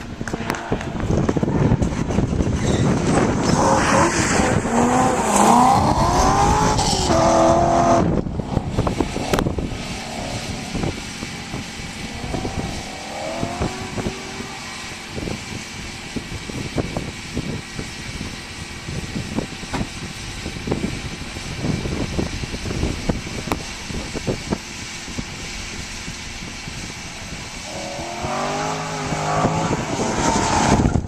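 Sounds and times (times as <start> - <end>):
sports car engine running hard: 0.0 - 31.0.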